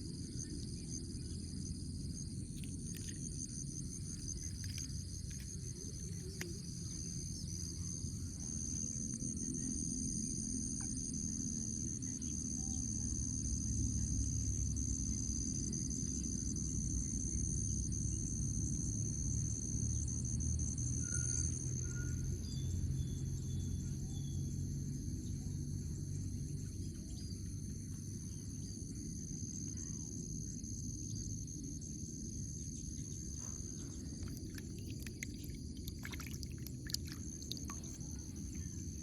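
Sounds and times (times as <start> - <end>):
insects trilling: 0.0 - 25.4, 26.2 - 39.0.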